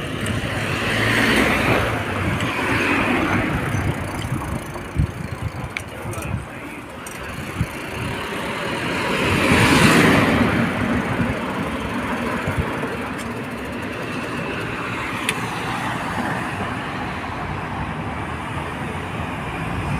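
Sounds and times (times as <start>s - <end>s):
steady traffic noise: 0.0s - 19.9s.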